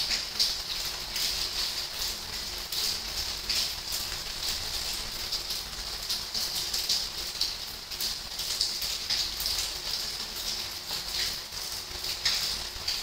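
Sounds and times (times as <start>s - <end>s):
raindrops tapping a surface: 0.0s - 13.0s.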